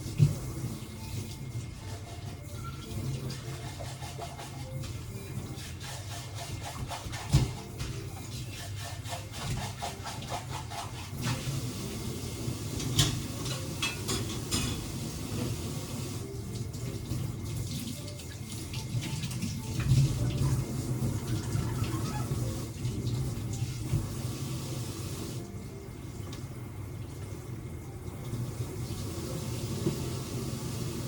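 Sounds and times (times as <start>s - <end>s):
water running: 0.0s - 31.0s.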